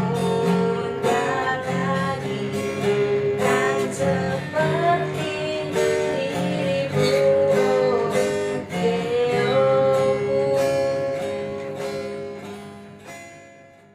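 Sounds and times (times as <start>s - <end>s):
plucked acoustic guitar music: 0.0s - 13.9s.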